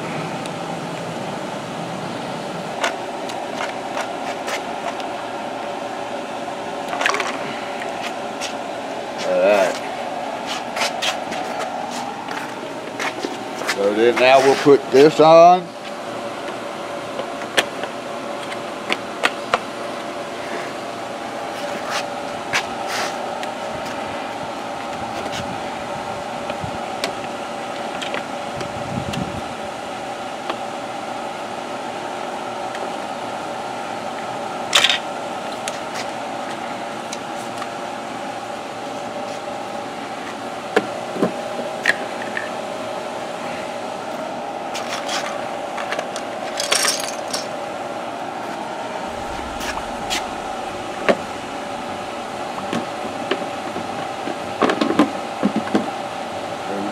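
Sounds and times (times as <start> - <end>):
steady mechanical hum: 0.0 - 56.9.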